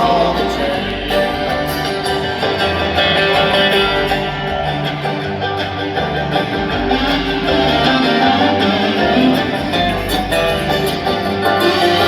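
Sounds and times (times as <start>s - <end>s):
bluegrass string band playing: 0.0s - 12.0s.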